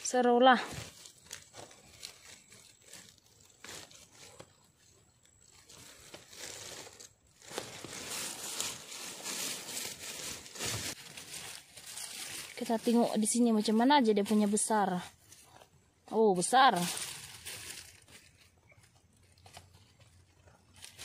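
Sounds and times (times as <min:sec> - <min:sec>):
soil and leaf litter crackling: 0:00.0 - 0:21.0.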